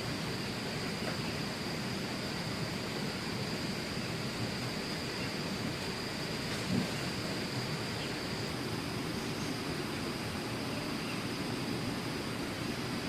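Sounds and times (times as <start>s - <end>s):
outdoor hiss: 0.0s - 13.0s.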